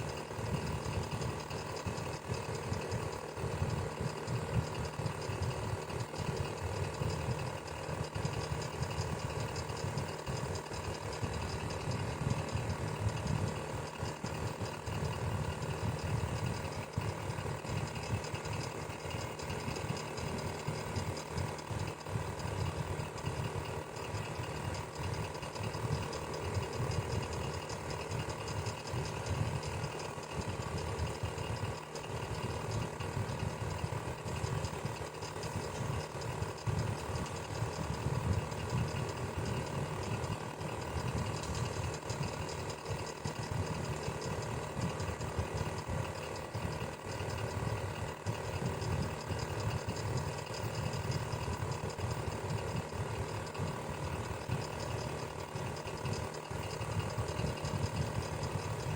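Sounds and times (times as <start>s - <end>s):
electric fan humming: 0.0s - 58.9s.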